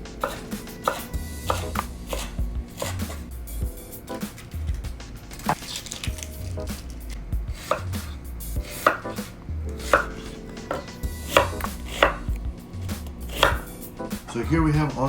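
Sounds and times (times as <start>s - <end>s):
knife chopping on cutting board: 0.0s - 3.3s, 4.4s - 14.2s.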